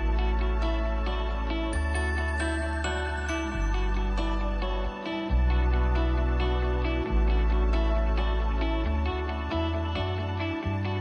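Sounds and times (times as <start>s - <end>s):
background music with bass: 0.0s - 11.0s.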